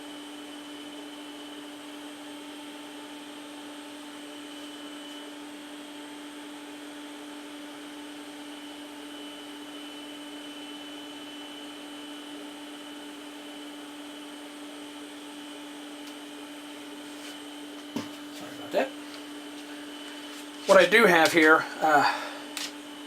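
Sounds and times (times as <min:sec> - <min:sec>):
computer whirring and humming: 0:00.0 - 0:23.0.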